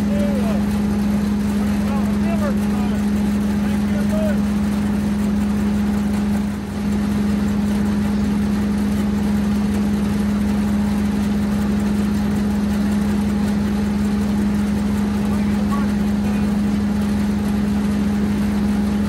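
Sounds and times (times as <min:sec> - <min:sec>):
machinery engine droning: 0:00.0 - 0:19.0.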